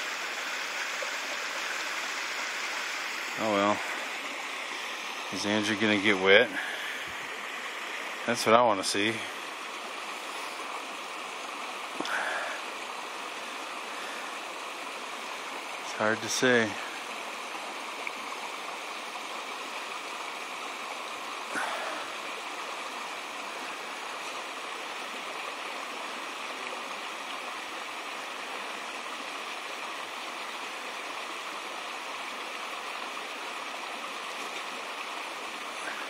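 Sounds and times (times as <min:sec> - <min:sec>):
creek running over stones: 0:00.0 - 0:36.0.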